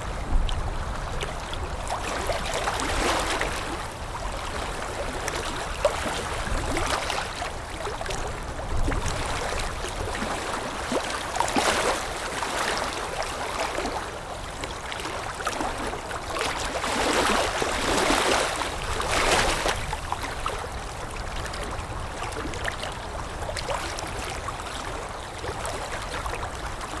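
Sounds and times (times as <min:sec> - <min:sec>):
water lapping and splashing: 0:00.0 - 0:27.0.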